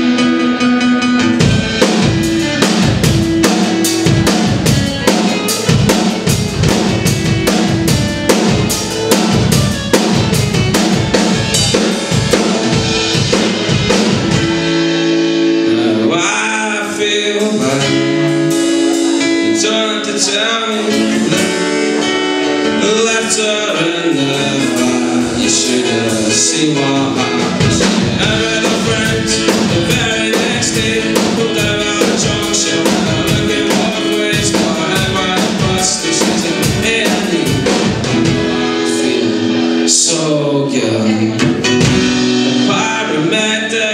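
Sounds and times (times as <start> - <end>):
acoustic guitar strumming: 0.0 - 43.9
drum kit playing: 0.0 - 43.9.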